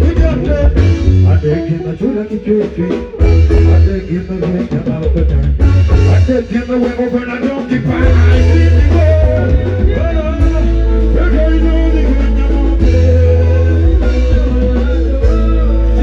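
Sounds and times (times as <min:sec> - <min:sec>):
heavy bass line: 0:00.0 - 0:16.0
live band music: 0:00.0 - 0:16.0
person singing: 0:00.0 - 0:16.0.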